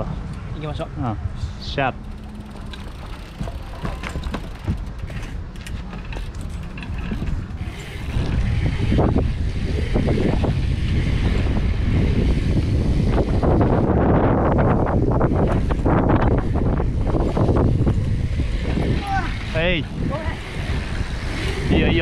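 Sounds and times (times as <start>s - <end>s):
wind buffeting microphone: 0.0s - 22.0s
bicycle tyres rolling on plastic: 1.7s - 22.0s.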